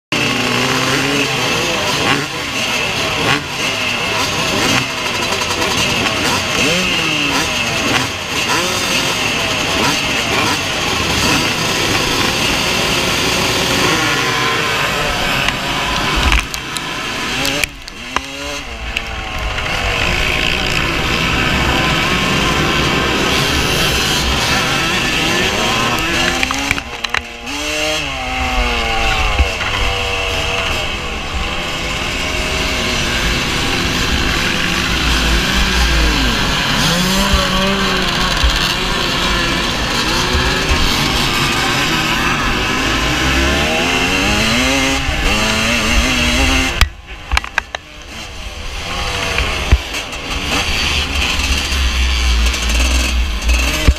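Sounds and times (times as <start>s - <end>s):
motocross bikes revving: 0.1s - 53.9s.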